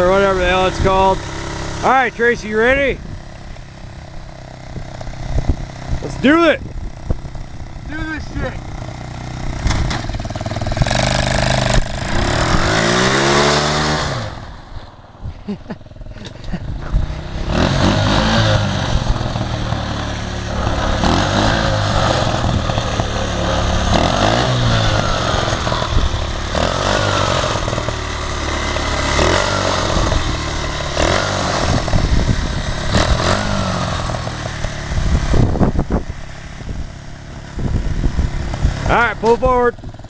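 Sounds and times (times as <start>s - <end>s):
mini bike engine revving: 0.0s - 14.8s, 15.5s - 40.0s.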